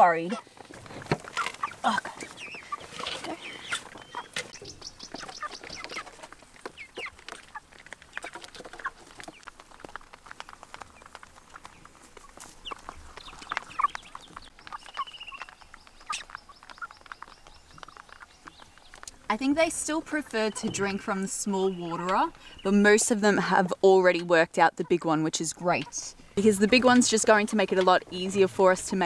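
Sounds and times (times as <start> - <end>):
chickens clucking and peeping: 0.0 - 29.0.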